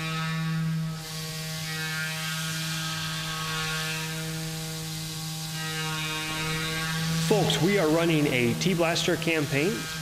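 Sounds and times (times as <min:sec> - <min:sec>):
hiss of end mill cutting metal: 0:00.1 - 0:10.0
milling machine spindle humming: 0:00.1 - 0:10.0.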